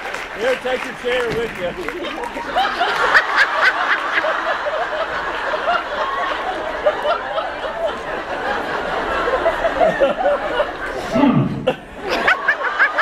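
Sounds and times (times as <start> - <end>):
audience laughing: 0.4 - 13.0.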